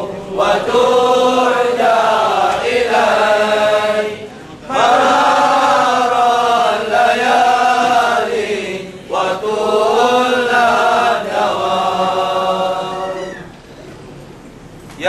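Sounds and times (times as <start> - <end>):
men chanting: 0.0 - 13.4.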